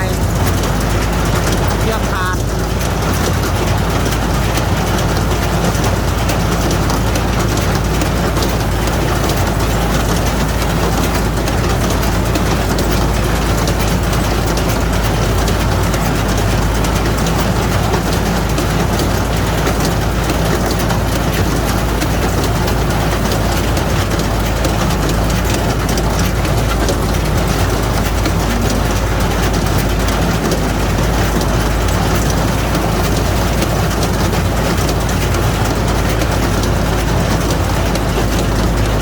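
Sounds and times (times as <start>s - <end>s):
straw baler running: 0.0s - 39.0s
tractor engine drone: 0.0s - 39.0s.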